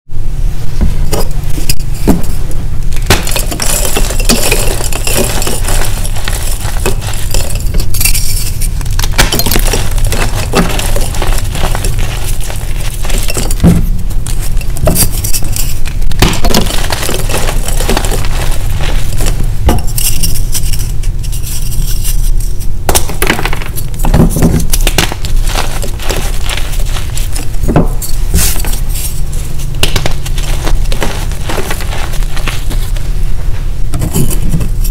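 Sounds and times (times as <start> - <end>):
steady low hum: 0.1 - 34.9
chalk crunching and crumbling: 1.1 - 34.9.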